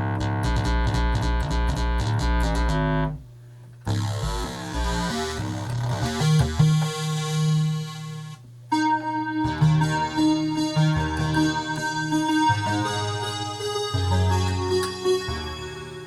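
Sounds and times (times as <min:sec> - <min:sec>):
synthesizer playing notes: 0:00.0 - 0:03.2, 0:03.9 - 0:16.0.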